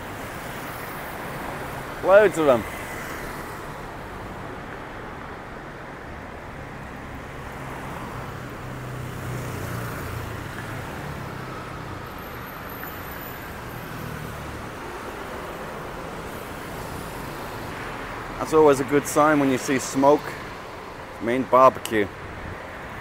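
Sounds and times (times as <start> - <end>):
passing cars and motorbikes: 0.0 - 23.0.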